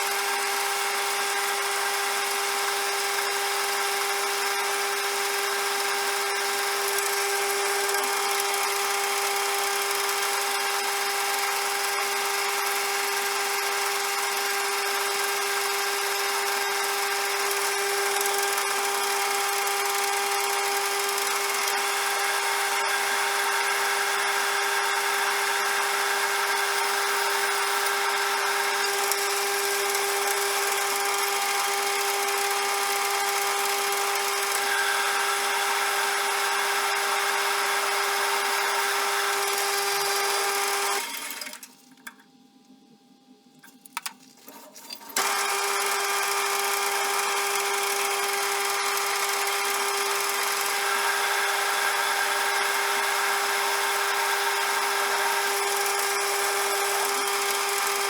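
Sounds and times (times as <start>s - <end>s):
metal lathe whining: 0.0s - 41.7s, 45.1s - 58.0s.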